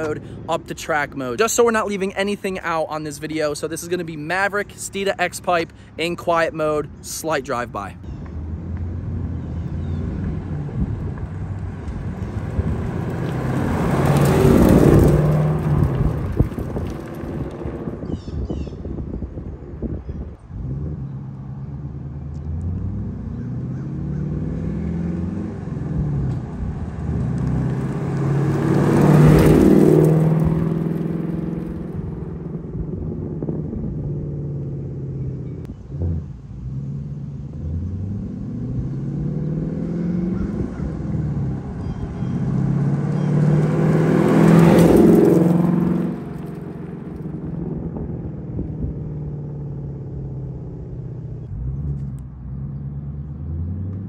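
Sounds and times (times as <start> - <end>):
car exhaust passing by: 7.3 - 54.0.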